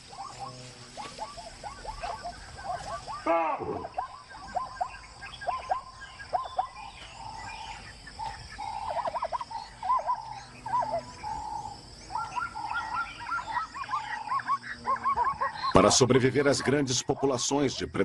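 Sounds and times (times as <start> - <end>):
high-pitched insect drone: 0.0 - 18.0
wild animal calls: 0.0 - 18.0.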